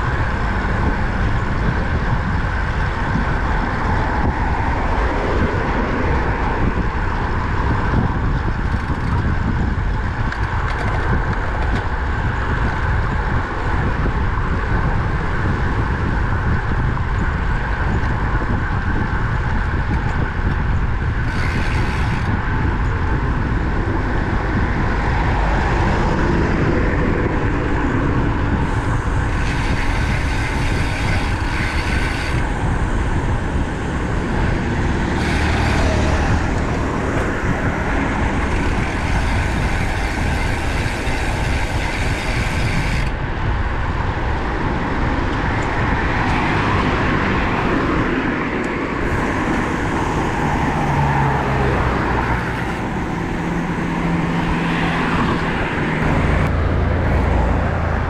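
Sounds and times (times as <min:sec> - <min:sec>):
highway traffic passing: 0:00.0 - 0:58.0
wind rushing over microphone: 0:00.0 - 0:58.0.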